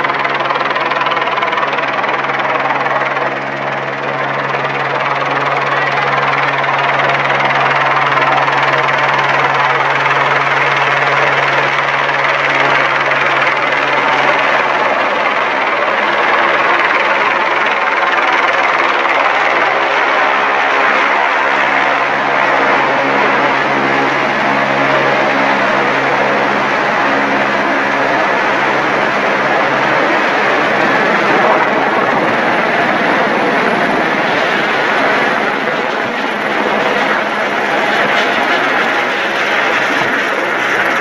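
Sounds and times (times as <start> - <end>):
helicopter engine and rotor: 0.0 - 41.0.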